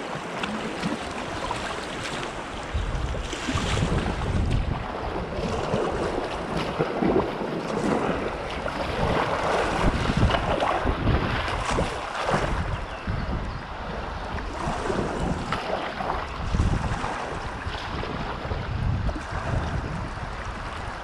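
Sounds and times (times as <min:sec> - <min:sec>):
paddle strokes splashing water: 0:00.0 - 0:21.0
wind rumbling on microphone: 0:00.0 - 0:21.0.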